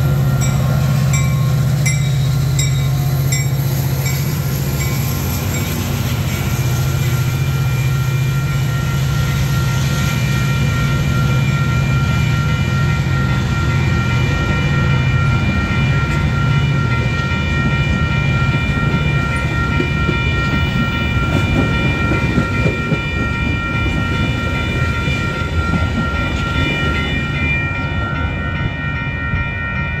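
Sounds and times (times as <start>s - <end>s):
crossing bells ringing: 0.0s - 30.0s
train rumbling over rail joints: 0.0s - 30.0s.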